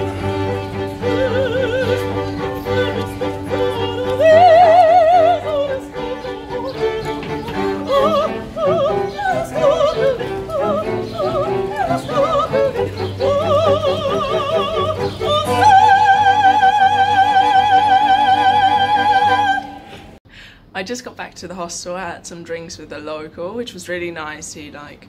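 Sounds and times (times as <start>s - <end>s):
cello: 0.0s - 20.2s
operatic singing with vibrato: 0.0s - 20.2s
violins: 0.0s - 20.2s.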